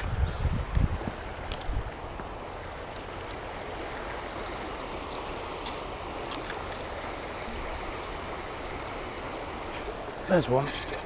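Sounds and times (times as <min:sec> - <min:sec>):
fast-flowing river rushing: 0:01.2 - 0:11.0.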